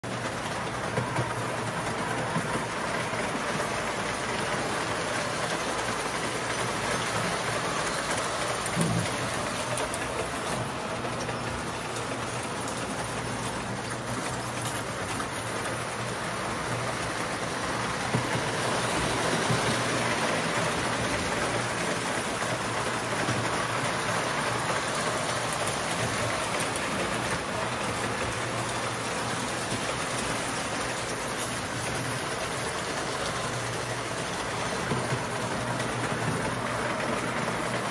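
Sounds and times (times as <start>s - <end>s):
model train wheels clattering: 0.0s - 37.9s.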